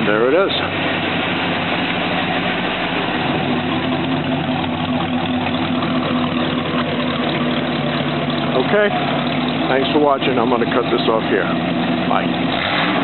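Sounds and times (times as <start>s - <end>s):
pickup truck engine idling: 0.0s - 12.6s.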